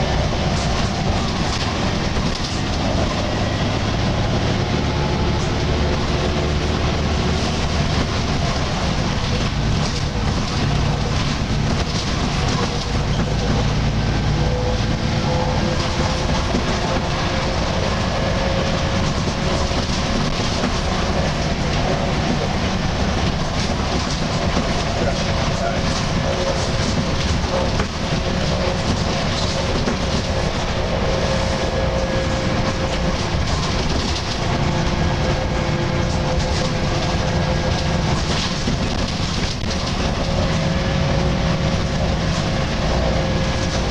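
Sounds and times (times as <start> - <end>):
bus diesel engine droning: 0.0 - 43.9
road and body noise: 0.0 - 43.9.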